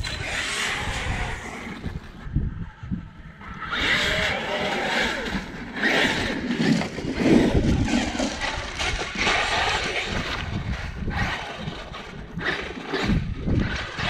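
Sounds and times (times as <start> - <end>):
electric motor whine: 0.0 - 14.0
wind rumbling on microphone: 0.0 - 14.0.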